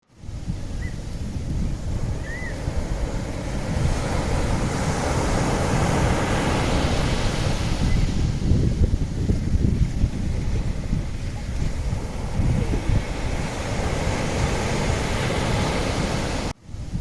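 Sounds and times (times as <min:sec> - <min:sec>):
wind buffeting microphone: 0:00.0 - 0:17.0
sea surf breaking: 0:00.1 - 0:16.6.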